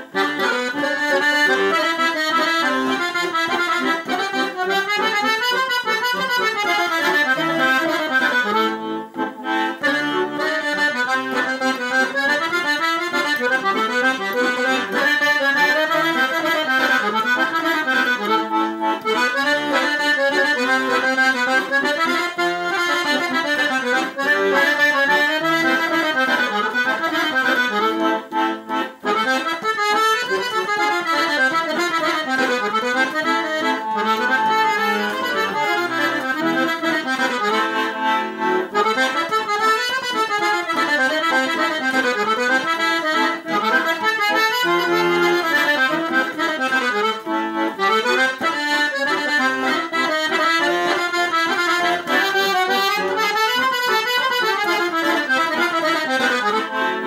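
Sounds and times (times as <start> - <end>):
accordion playing folk dance tune: 0.0 - 57.0.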